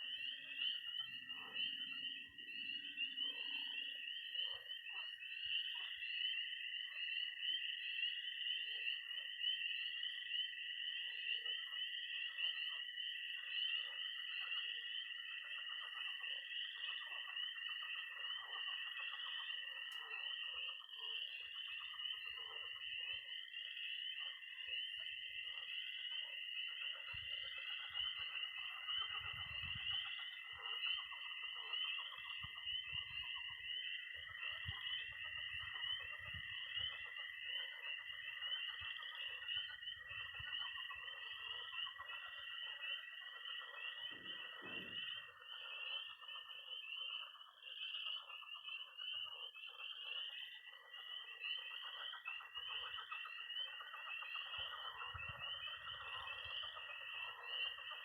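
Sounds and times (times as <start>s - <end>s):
frogs croaking: 0.0s - 58.0s
spring peepers peeping: 0.0s - 58.0s
toads trilling: 0.0s - 58.0s.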